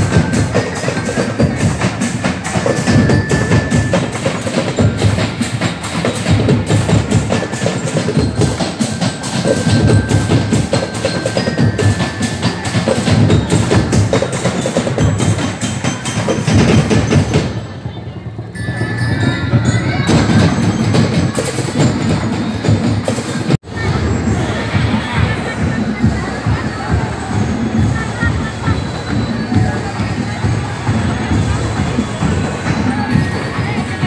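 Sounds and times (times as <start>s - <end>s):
low drums: 0.0s - 34.0s.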